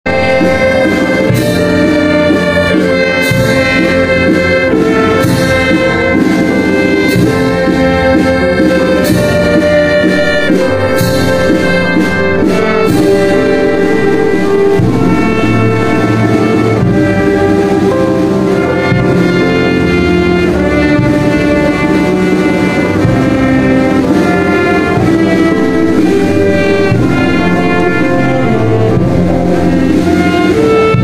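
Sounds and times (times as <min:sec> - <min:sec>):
brass band music: 0:00.0 - 0:31.0.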